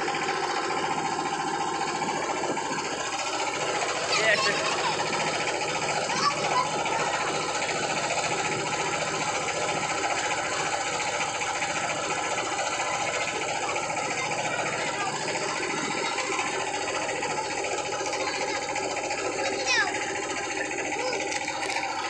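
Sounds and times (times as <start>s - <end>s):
small boat engine running: 0.0s - 22.0s.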